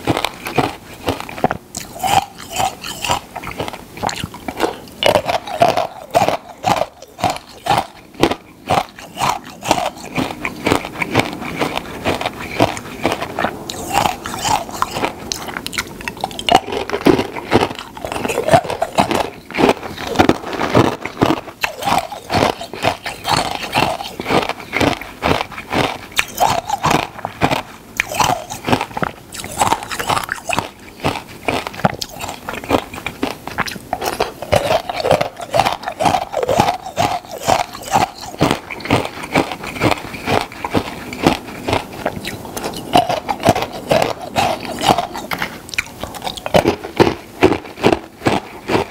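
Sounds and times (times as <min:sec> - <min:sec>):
crunchy food chewing: 0:00.0 - 0:48.9.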